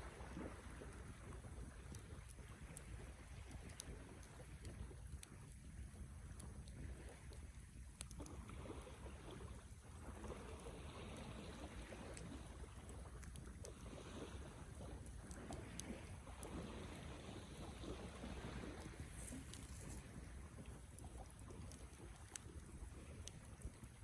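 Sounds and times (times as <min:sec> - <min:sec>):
fire crackles and pops: 0:00.2 - 0:24.0
wood fire burning: 0:01.2 - 0:24.0.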